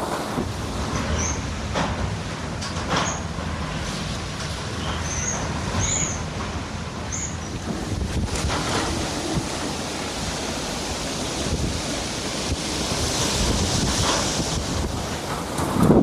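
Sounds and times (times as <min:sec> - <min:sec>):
strong gusty wind buffeting microphone: 0:00.0 - 0:16.0.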